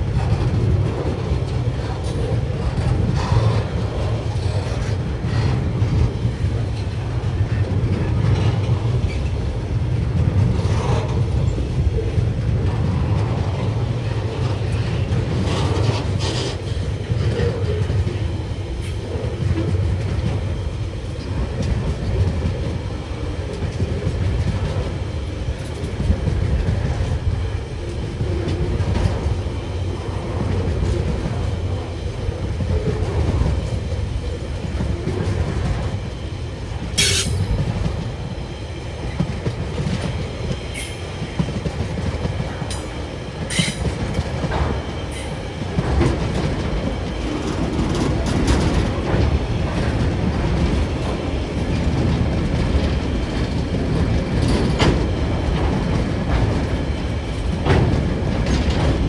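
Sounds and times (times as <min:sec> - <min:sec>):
train wagons rumbling: 0:00.0 - 0:59.0
wheels clacking over rail joints: 0:00.0 - 0:59.0.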